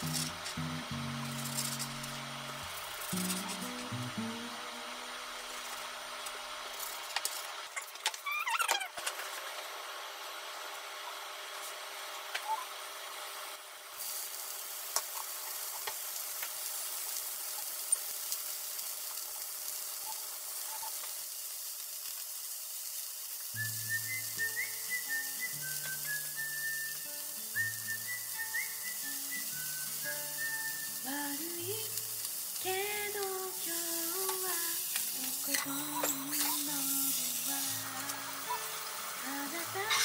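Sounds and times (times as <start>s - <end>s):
food frying in hot pan: 0.0s - 8.3s, 9.2s - 40.0s.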